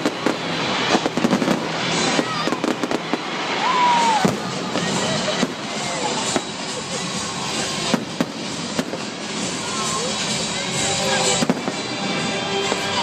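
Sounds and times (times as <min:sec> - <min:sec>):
crowd voices: 0:00.0 - 0:13.0
fireworks crackling and popping: 0:00.0 - 0:13.0
sharp fireworks bangs: 0:00.0 - 0:13.0.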